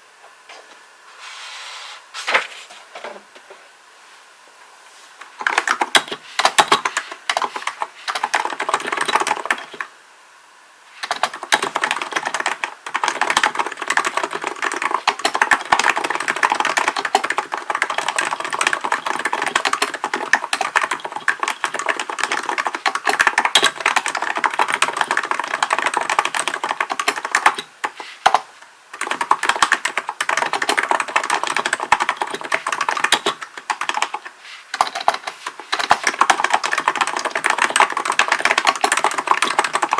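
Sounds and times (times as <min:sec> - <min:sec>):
fast keyboard typing: 0:05.3 - 0:09.9, 0:11.0 - 0:39.9.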